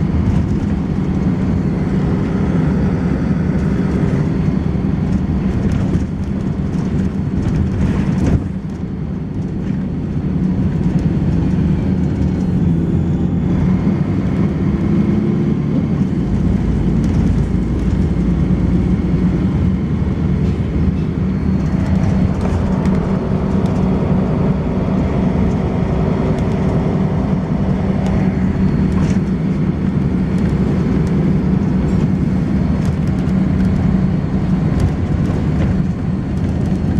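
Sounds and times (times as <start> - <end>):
bus diesel engine running: 0.0 - 36.9.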